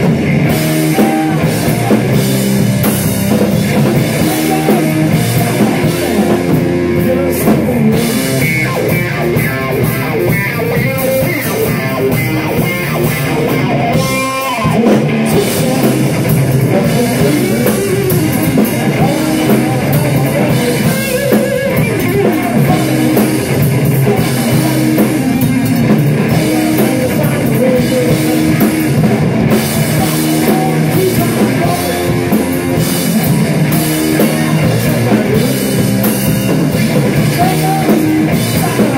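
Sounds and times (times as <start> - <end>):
drum kit: 0.0 - 38.9
electric guitar: 0.0 - 38.9.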